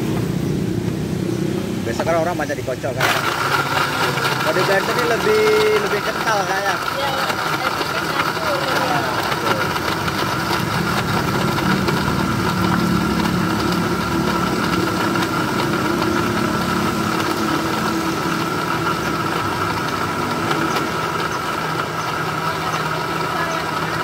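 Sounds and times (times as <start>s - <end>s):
blender motor whirring: 1.8s - 24.0s.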